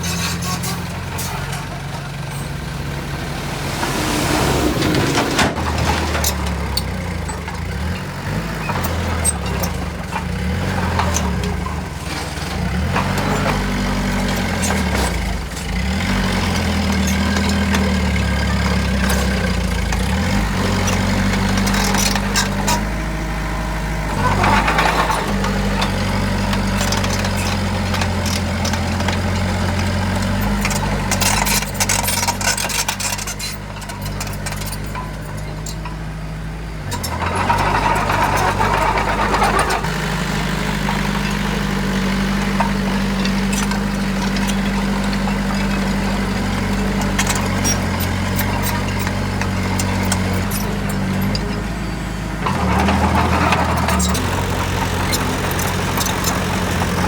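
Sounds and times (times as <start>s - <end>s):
diesel construction machinery running: 0.0s - 57.0s.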